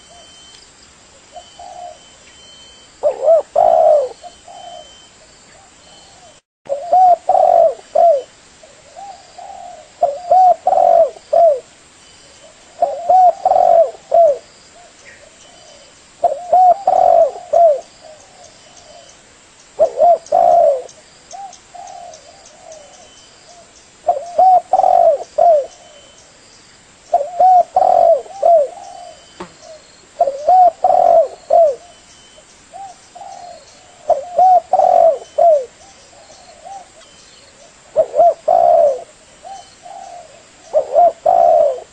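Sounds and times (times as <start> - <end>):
dove cooing: 1.3 - 11.7, 12.4 - 19.1, 19.8 - 26.2, 27.1 - 32.0, 32.7 - 41.9.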